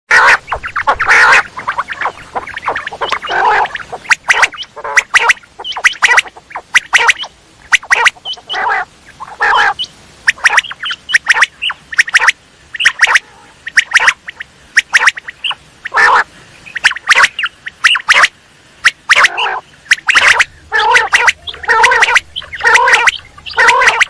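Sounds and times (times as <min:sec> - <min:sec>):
quail calling: 0:00.1 - 0:24.0.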